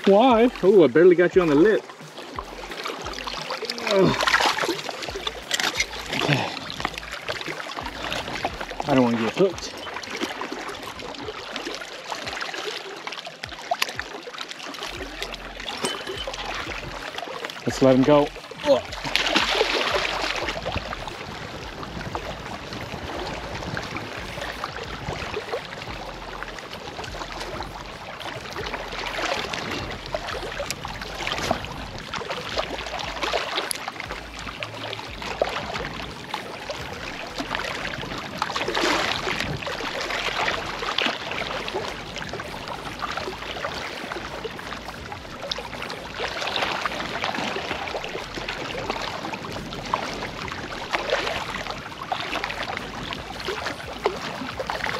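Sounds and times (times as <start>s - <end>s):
waves lapping against rocks: 0.0s - 54.9s.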